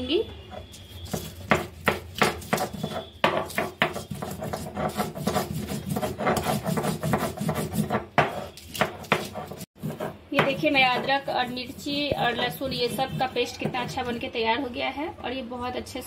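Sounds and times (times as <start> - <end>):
stone scraping on stone: 0.5 - 14.2.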